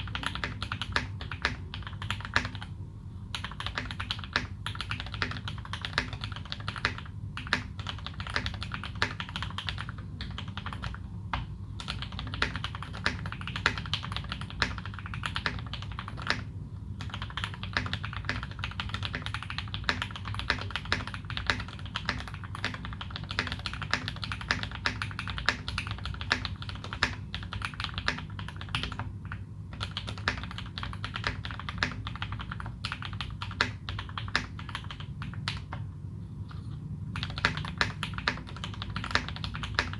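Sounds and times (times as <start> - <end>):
fast typing on mechanical keyboard: 0.0 - 2.7, 3.3 - 35.9, 37.1 - 39.9.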